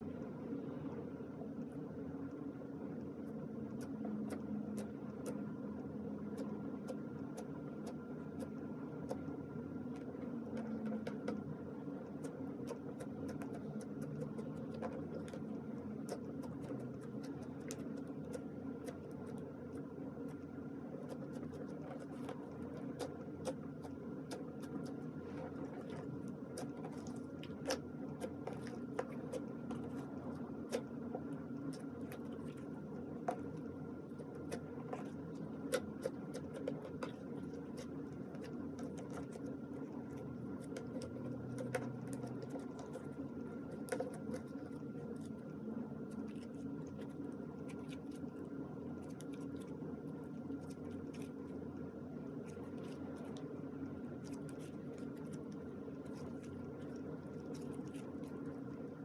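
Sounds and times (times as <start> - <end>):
slime kneaded by hand: 0.0 - 59.0
steady low hum: 0.0 - 59.0.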